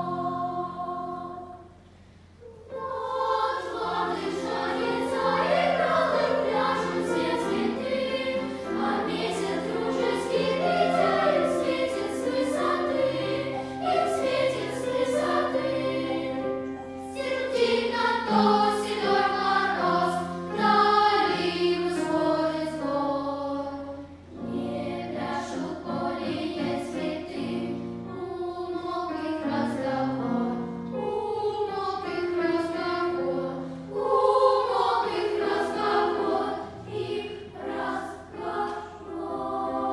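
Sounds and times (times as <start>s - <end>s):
children's choir singing: 0.0s - 1.8s, 2.4s - 39.9s.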